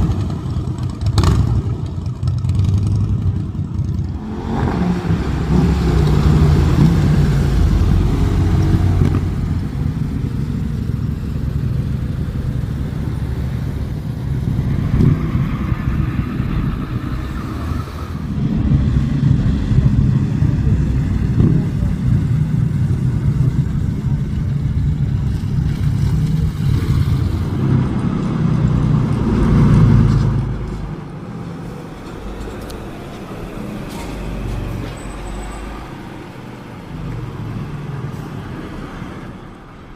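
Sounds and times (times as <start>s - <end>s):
motorcycle engines revving: 0.0s - 39.3s.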